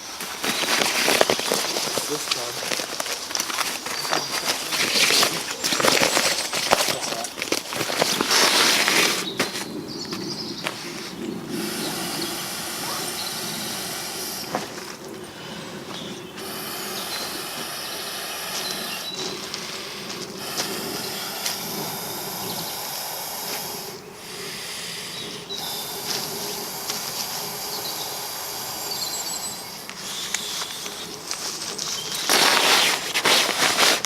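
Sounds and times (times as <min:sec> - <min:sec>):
loud crackling rustle: 0:00.0 - 0:34.0
steady hiss: 0:00.0 - 0:34.0.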